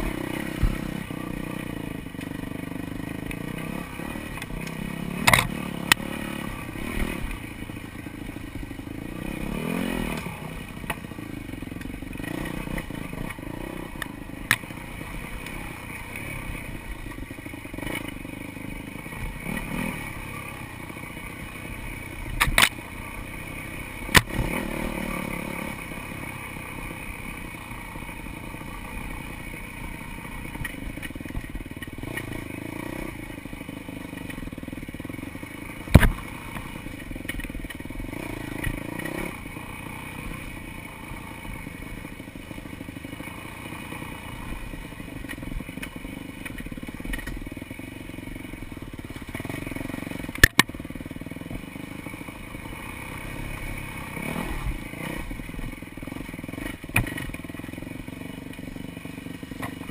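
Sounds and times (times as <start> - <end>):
dirt bike engine at low speed: 0.0 - 59.9.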